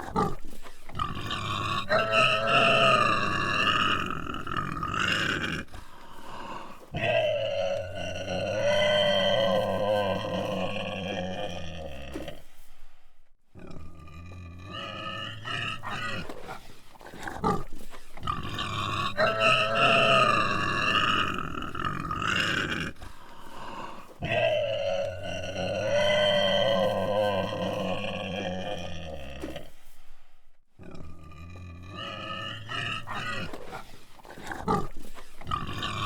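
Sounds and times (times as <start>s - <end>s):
pig grunting and squealing: 0.0s - 12.5s, 13.5s - 29.8s, 30.7s - 36.0s.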